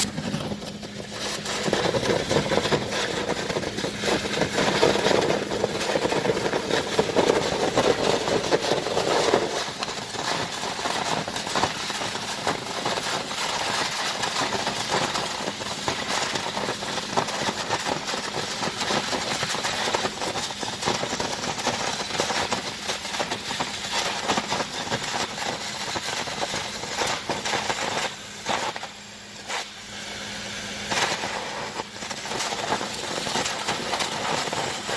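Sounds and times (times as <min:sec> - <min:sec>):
engine or pump hum: 0:00.0 - 0:34.9
water jet blasting concrete: 0:00.0 - 0:34.9.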